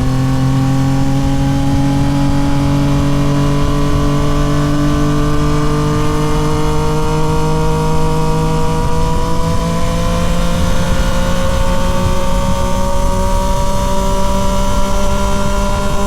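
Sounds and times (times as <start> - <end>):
motorcycle engine accelerating: 0.0 - 16.0
wind and road noise: 0.0 - 16.0.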